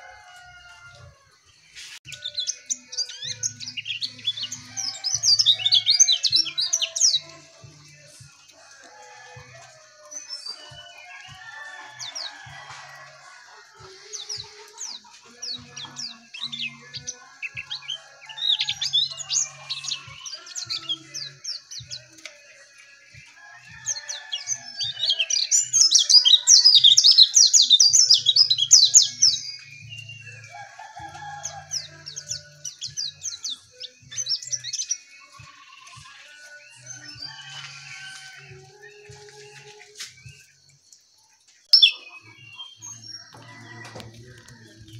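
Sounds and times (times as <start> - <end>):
bird twittering song: 0.0 - 13.1, 13.7 - 44.9.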